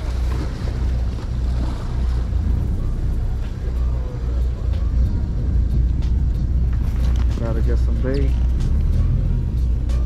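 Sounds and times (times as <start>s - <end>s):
boat engine rumbling: 0.0s - 10.0s
wind buffeting microphone: 0.0s - 10.0s.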